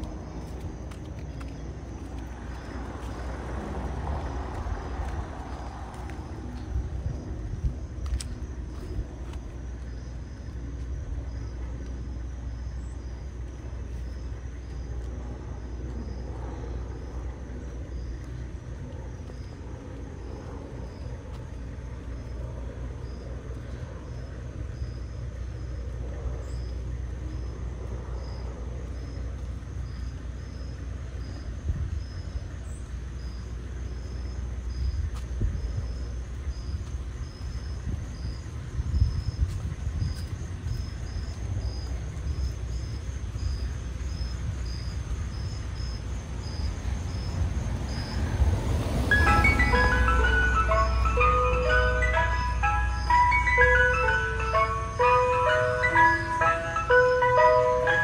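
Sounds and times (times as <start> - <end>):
insects chirping: 0.0 - 58.0
steady low rumble: 0.0 - 58.0.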